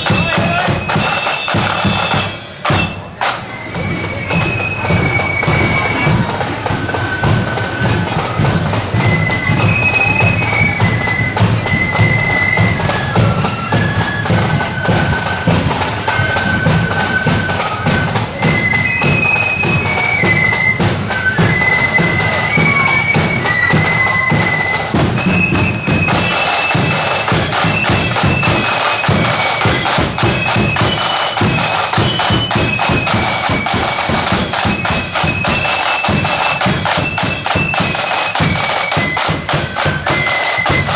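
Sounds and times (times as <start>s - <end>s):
marching flute band playing: 0.0s - 40.9s
snare drumming: 0.0s - 40.9s.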